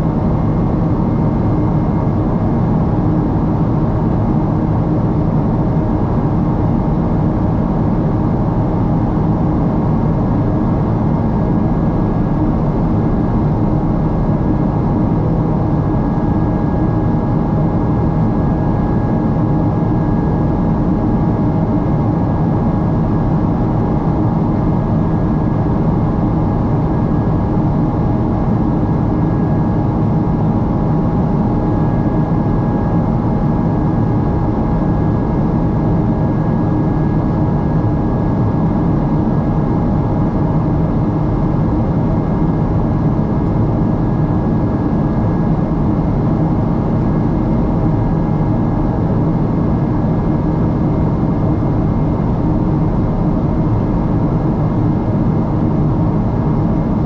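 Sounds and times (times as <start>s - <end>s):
jet cabin engine and airflow rush: 0.0s - 57.0s.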